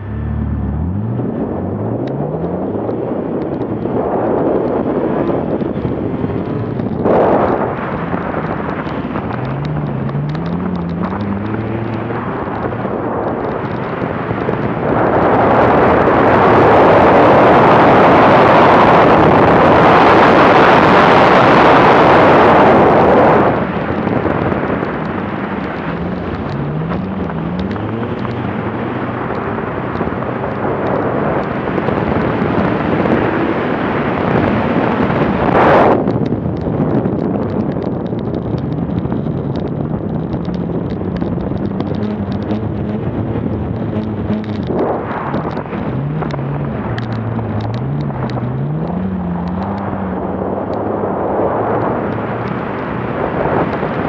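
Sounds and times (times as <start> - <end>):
car engine revving through gears: 0.0 - 54.0
wind noise on microphone: 0.0 - 54.0.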